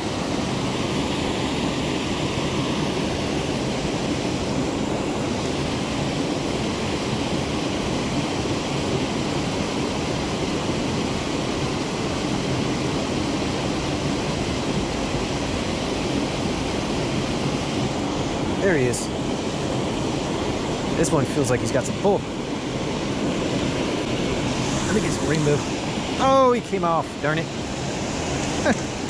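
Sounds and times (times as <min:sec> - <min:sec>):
creek water rushing over rocks: 0:00.0 - 0:29.0.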